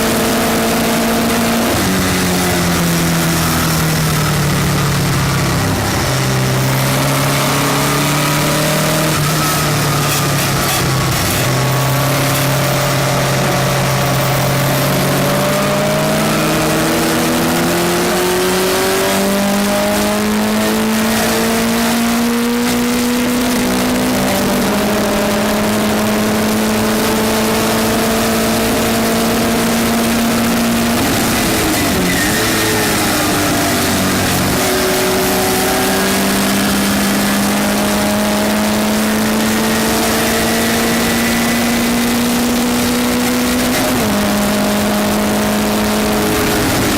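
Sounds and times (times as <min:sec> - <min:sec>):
race car engine revving: 0:00.0 - 0:46.9
wind and road noise: 0:00.0 - 0:46.9.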